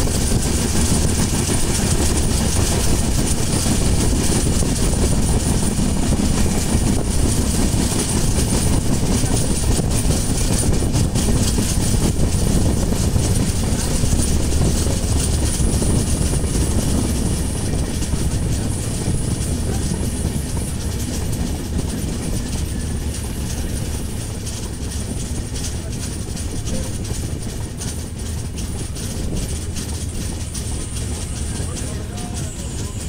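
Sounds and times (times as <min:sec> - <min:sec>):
vehicle rumble: 0:00.0 - 0:33.0.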